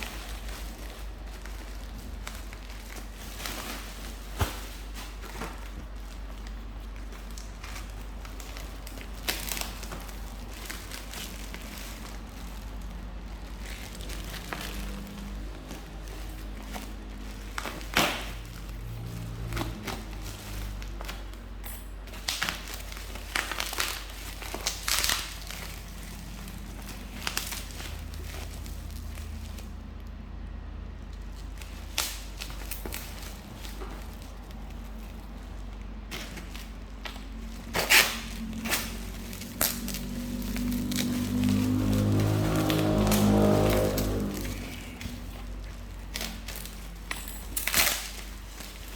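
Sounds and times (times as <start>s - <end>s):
packaging crinkling: 0.0s - 30.2s, 31.0s - 48.9s.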